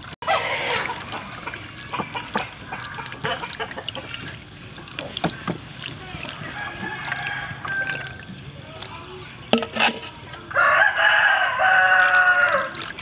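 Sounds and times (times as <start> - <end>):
water trickling from scoop: 0.0 - 10.5, 11.8 - 13.0
small splashes: 0.0 - 10.6, 11.5 - 13.0.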